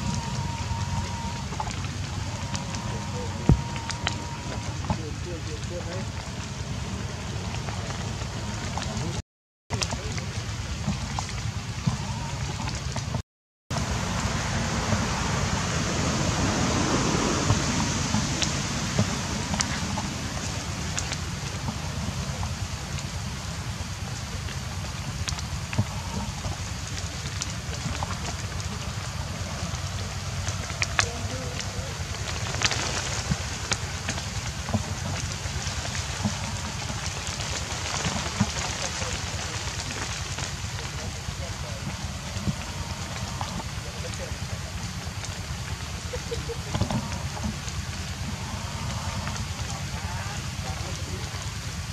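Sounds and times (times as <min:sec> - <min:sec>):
rain on foliage: 0:00.0 - 0:51.9
water drips ticking: 0:00.0 - 0:51.9
low rumble: 0:09.8 - 0:51.9.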